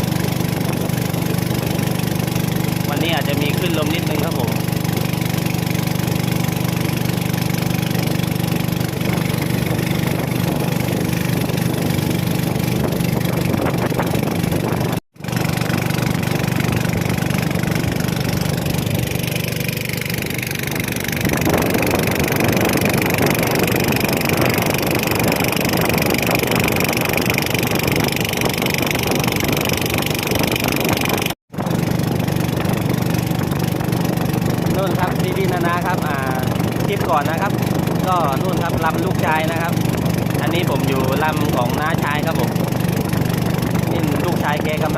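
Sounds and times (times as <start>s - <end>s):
boat engine running: 0.0s - 44.9s
rushing water: 0.0s - 44.9s
wind: 0.0s - 44.9s.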